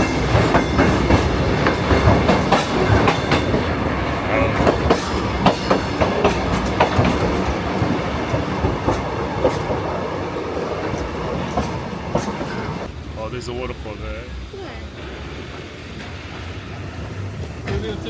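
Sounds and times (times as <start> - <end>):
wheels clicking over rail joints: 0.0 - 13.0, 15.7 - 18.0
train carriages rumbling: 0.0 - 18.0.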